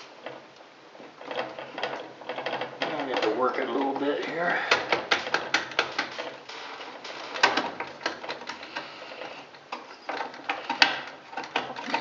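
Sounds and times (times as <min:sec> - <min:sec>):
small parts clicking and knocking: 0:00.0 - 0:12.0.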